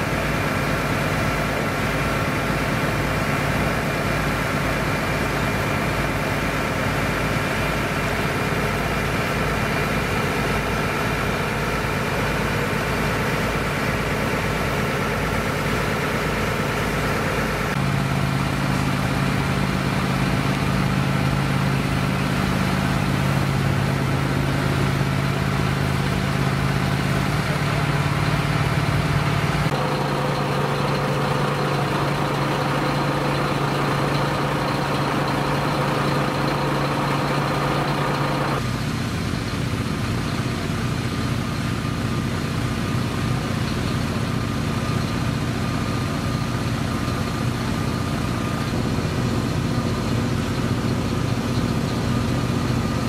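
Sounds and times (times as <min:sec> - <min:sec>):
diesel engines humming: 0:00.0 - 0:53.0.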